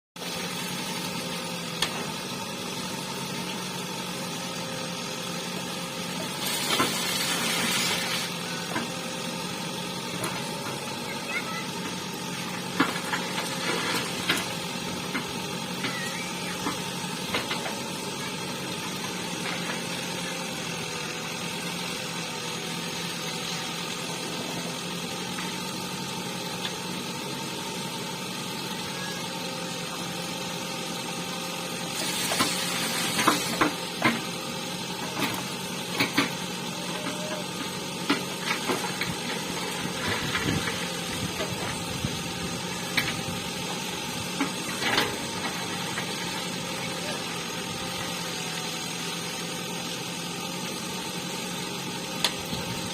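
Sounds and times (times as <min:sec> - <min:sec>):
diesel engine running: 0:00.2 - 0:52.9.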